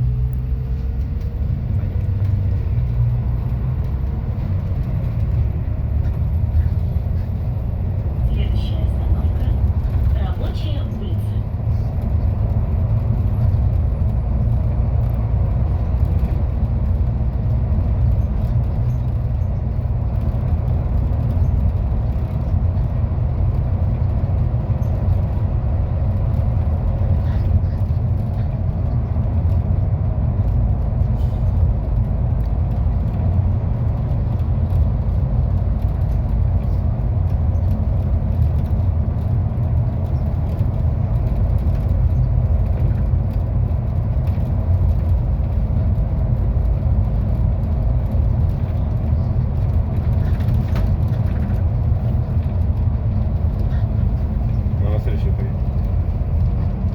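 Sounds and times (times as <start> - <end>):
bus engine and road rumble: 0.0 - 56.9.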